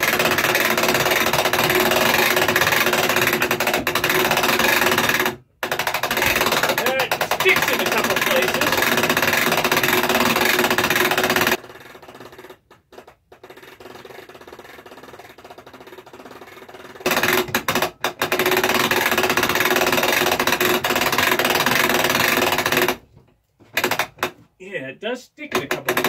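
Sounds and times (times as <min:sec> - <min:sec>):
ratchet clicking rapidly: 0:00.0 - 0:12.7, 0:13.4 - 0:23.0.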